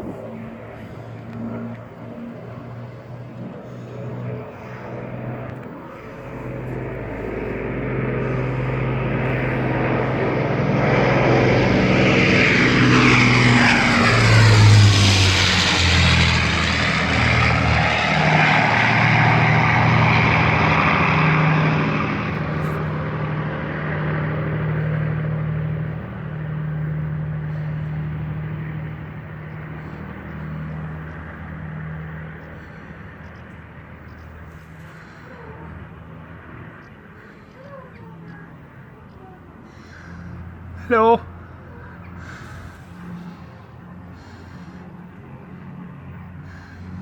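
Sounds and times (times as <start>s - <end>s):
propeller aircraft flying past: 0.0s - 47.0s.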